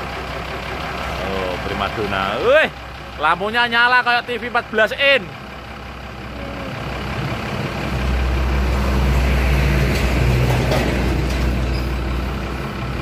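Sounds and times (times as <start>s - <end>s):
truck diesel engine humming: 0.0s - 13.0s.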